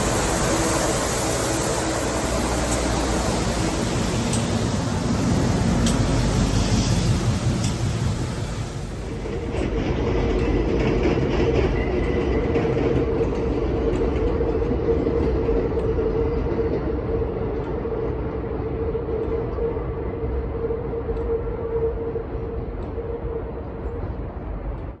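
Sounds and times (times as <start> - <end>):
diesel locomotive passing: 0.0 - 25.0
rail rumble: 0.0 - 25.0.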